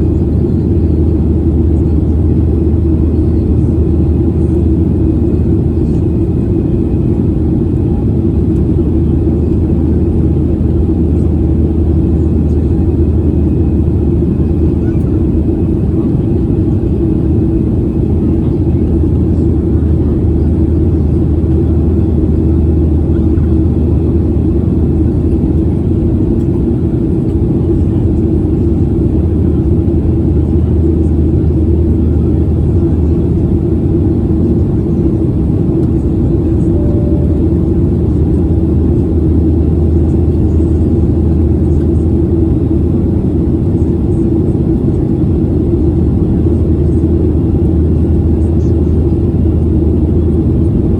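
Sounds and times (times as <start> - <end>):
jet engine drone in cabin: 0.0 - 50.9
low hum and rumble: 0.0 - 50.9.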